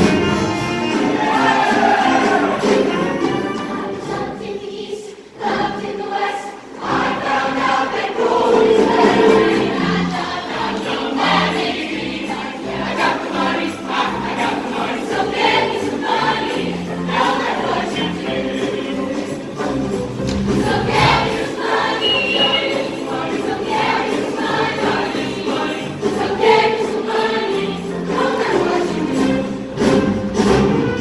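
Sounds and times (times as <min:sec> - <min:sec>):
choir singing: 0:00.0 - 0:31.0.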